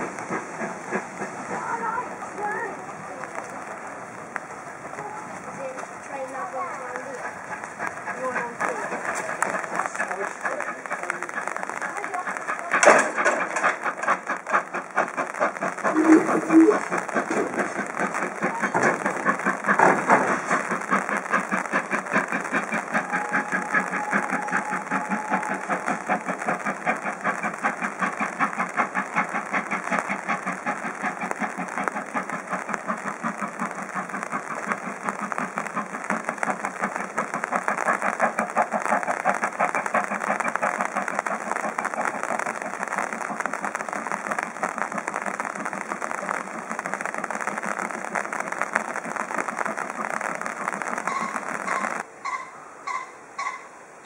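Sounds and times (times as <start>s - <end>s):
steam locomotive chuffing: 0.0s - 54.0s.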